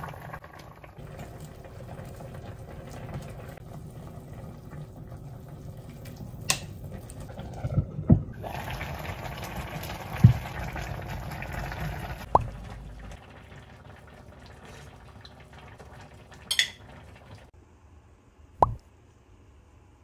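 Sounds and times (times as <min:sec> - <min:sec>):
soup bubbling in a pot: 0:00.0 - 0:17.6.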